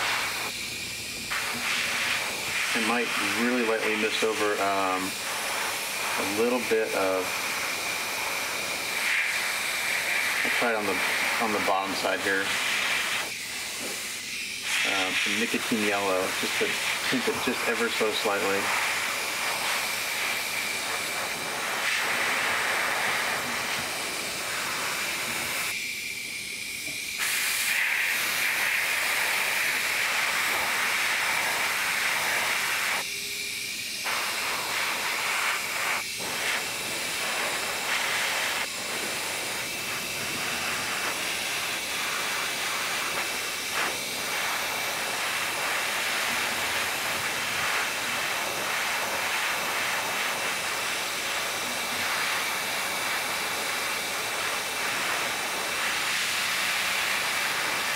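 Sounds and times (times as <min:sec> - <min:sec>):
airbrush hissing: 0:00.0 - 0:57.9.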